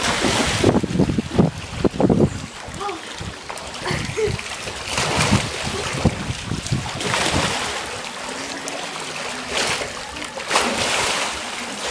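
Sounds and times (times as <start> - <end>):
pool water splashing: 0.0 - 11.9.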